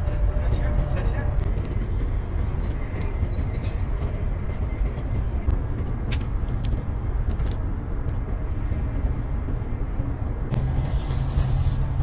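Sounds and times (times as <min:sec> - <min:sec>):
vehicle rumble from inside: 0:00.0 - 0:12.0.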